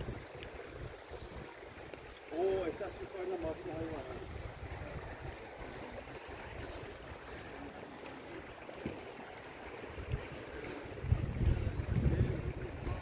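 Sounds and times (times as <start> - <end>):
wind buffeting microphone: 0.0 - 7.5, 9.6 - 13.0.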